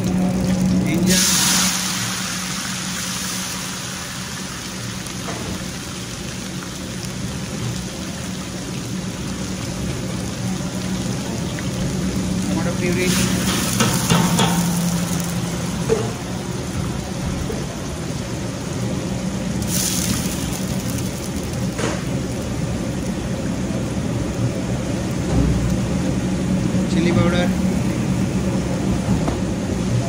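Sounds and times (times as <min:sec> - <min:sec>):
food sizzling in hot oil: 0:00.0 - 0:28.9
low steady hum: 0:00.0 - 0:30.0.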